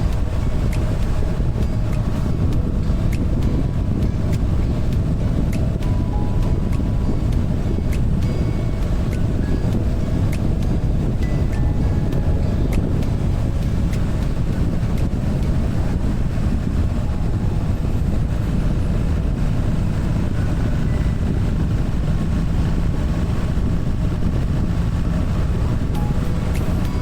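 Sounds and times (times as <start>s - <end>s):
wind rushing past microphone: 0.0s - 27.0s.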